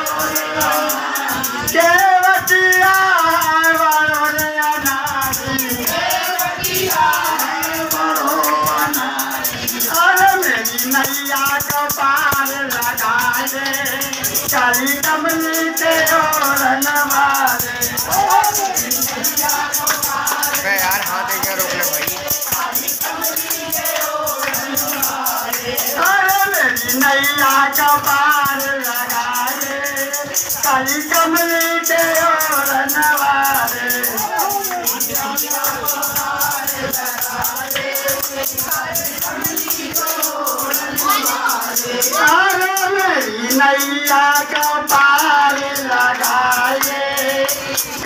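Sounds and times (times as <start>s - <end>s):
men singing devotional song: 0.0s - 48.0s
tongs jingling rhythmically: 0.0s - 48.0s.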